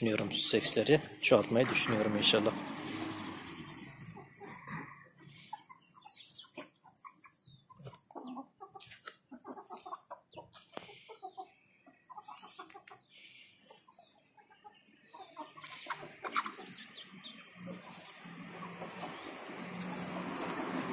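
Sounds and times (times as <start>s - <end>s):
hens clucking softly: 0.2s - 20.9s.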